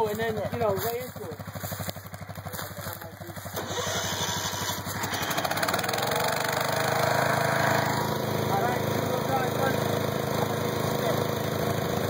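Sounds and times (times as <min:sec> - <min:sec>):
engines running under load: 0:00.0 - 0:12.0.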